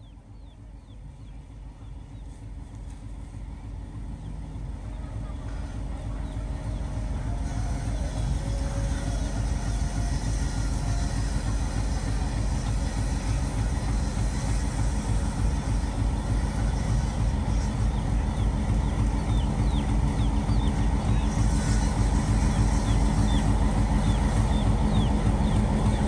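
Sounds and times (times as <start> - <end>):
diesel locomotive engine throbbing: 0.0 - 26.0.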